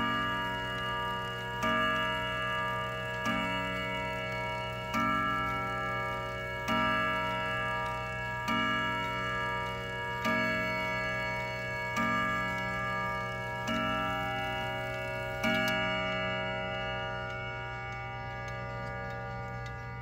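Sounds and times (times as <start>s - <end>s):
wall clock chime strokes: 0.0s - 20.0s.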